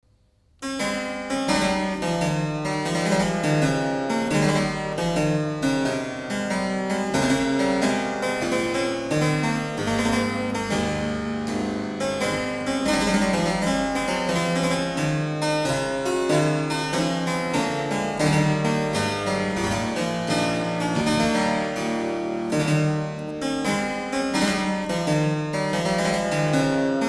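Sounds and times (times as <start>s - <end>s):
harpsichord music: 0.6s - 27.0s.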